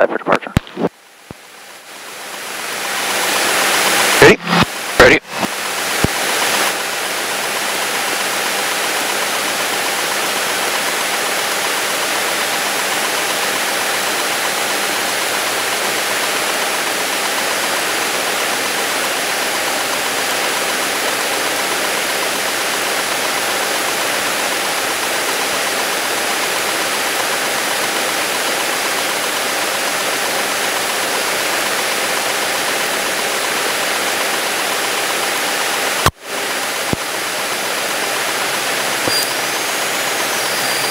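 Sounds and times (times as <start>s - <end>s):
propeller plane engine drone: 0.0s - 40.9s.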